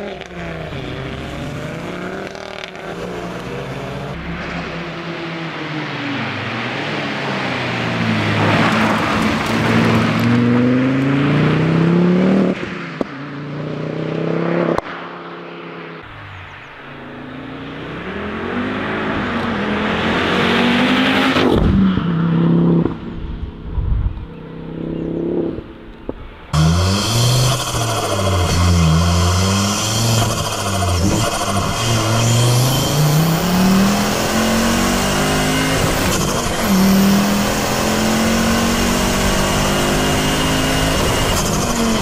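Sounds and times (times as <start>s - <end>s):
car engine accelerating hard: 0.0s - 14.9s, 15.7s - 23.4s, 26.5s - 42.0s.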